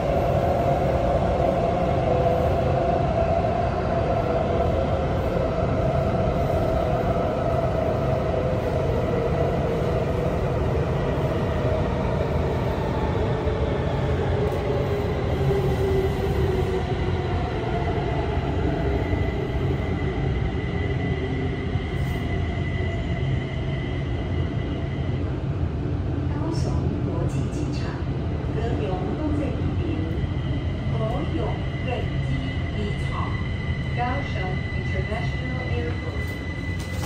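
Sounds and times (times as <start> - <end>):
rumble of train wheels on rail: 0.0 - 37.0.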